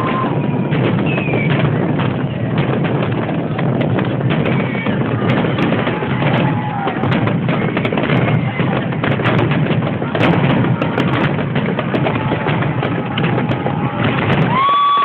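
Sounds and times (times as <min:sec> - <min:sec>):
faint fireworks whistles: 0:00.0 - 0:15.0
fireworks bangs and crackling: 0:00.0 - 0:15.0.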